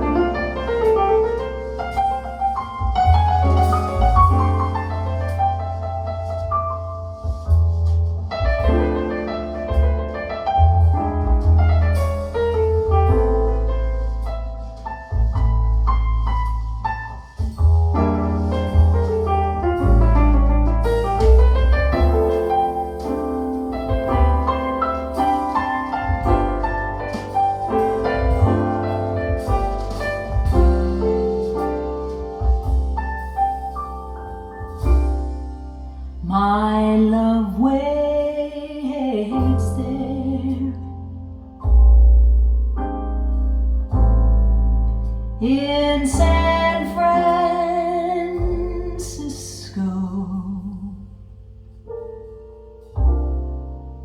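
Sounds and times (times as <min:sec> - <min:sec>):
deep bass line: 0:00.0 - 0:54.0
piano music over loudspeakers: 0:00.0 - 0:54.0.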